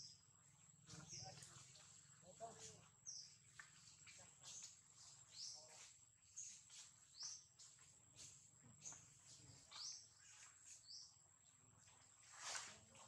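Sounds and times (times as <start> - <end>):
bird chirping: 0.0 - 12.6
rustle: 0.8 - 13.0.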